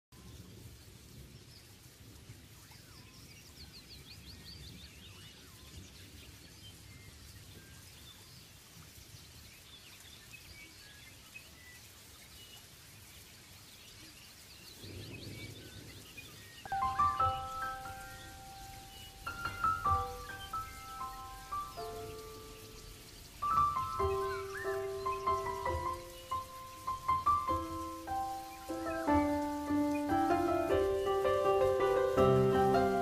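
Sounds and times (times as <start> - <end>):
faint birdsong chirps: 0.1 - 33.0.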